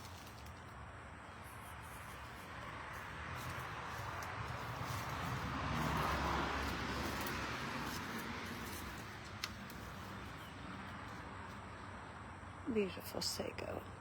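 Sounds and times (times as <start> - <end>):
vehicle passing: 1.2 - 13.0.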